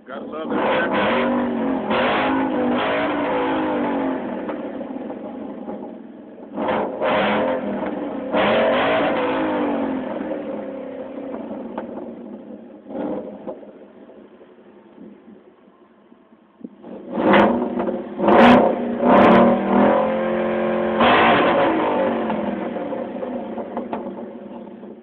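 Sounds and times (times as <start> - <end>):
car engine revving: 0.0 - 15.5, 16.6 - 25.0.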